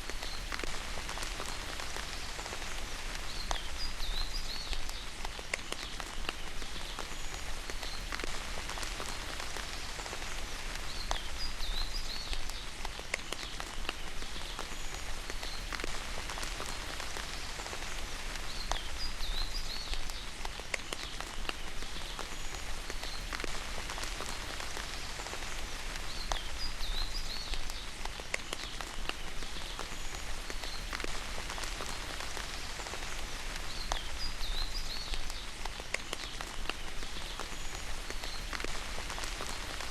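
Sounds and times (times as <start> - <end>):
raindrops tapping: 0.0 - 39.9
steady rain falling: 0.0 - 39.9.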